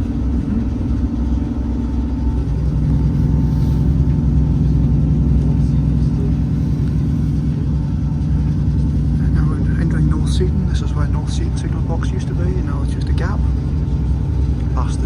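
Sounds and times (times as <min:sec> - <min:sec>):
train engine hum: 0:00.0 - 0:15.0
train rumbling from inside carriage: 0:00.0 - 0:15.0.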